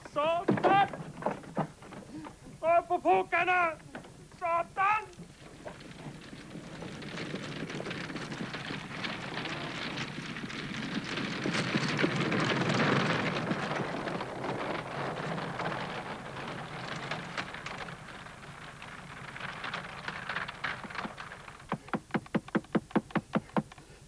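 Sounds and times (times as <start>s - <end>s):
horse hooves: 0.0s - 2.6s, 3.6s - 24.0s
wooden cart rattling on snow: 0.0s - 24.0s.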